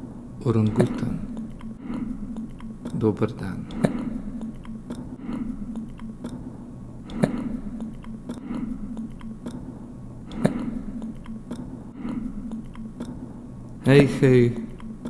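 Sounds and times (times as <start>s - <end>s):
steady low hum: 0.0s - 15.0s
person chewing: 0.6s - 3.0s, 3.7s - 13.8s
sharp clicks: 0.6s - 13.8s, 14.4s - 15.0s.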